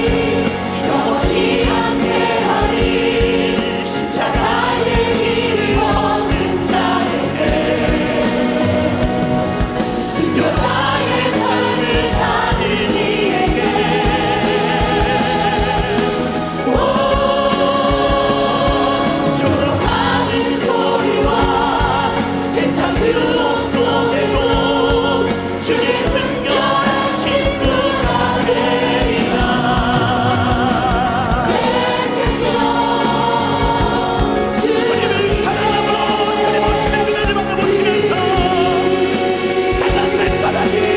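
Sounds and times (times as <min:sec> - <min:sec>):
band accompaniment with drums: 0:00.0 - 0:40.9
choir and congregation singing hymn: 0:00.0 - 0:40.9.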